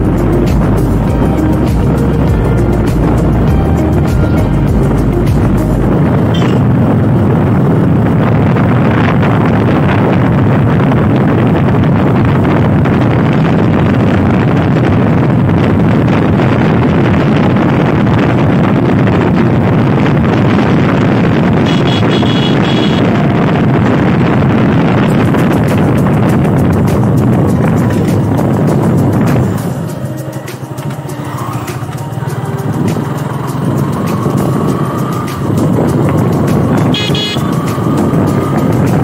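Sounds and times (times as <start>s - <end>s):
motorcycle engine running: 0.0s - 39.0s
wind rush on microphone: 0.0s - 39.0s.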